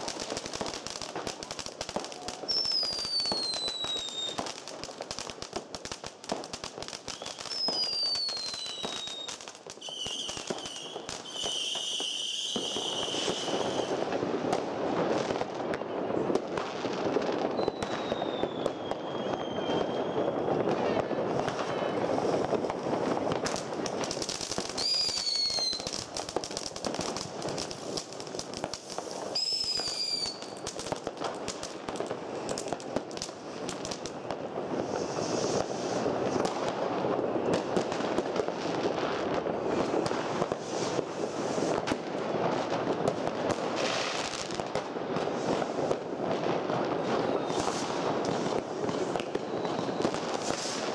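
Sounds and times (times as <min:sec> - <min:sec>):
firecracker bangs and crackling: 0:00.0 - 0:50.9
whistling fireworks falling in pitch: 0:00.0 - 0:50.9.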